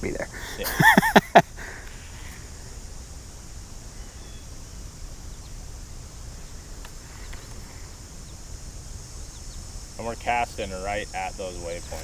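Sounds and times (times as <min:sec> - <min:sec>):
high hiss: 0:00.0 - 0:12.0.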